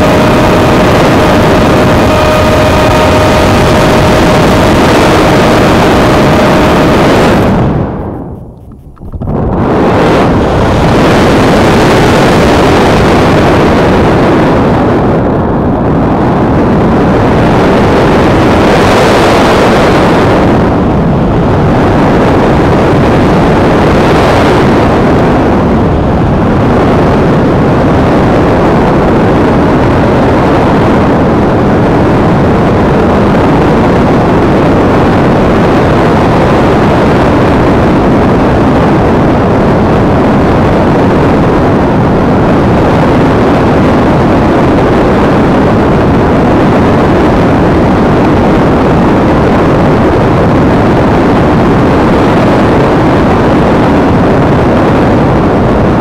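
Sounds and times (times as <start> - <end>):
wind rushing on microphone: 0.0 - 56.0.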